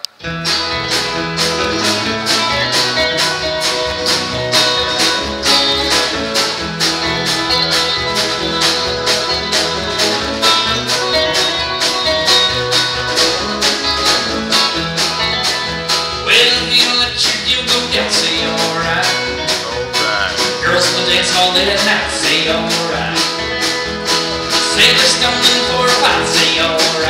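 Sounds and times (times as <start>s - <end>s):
drum kit: 0.0s - 27.0s
electric bass: 0.0s - 27.0s
electric guitar: 0.0s - 27.0s
strummed acoustic string instrument: 0.1s - 27.0s.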